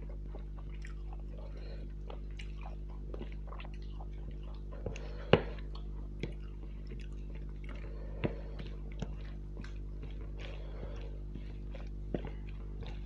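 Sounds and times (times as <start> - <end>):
person chewing food: 0.0 - 13.0
steady low hum: 0.0 - 13.0
mouth clicks and smacks: 0.1 - 13.0.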